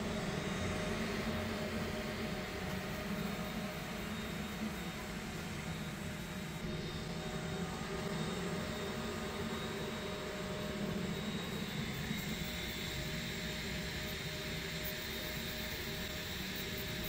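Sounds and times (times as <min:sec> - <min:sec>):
printer fans whirring: 0:00.0 - 0:17.0.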